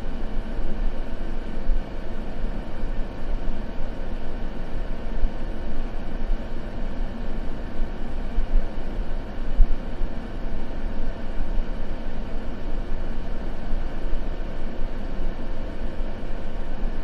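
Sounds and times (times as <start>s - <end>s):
deep low hiss noise: 0.0s - 17.0s.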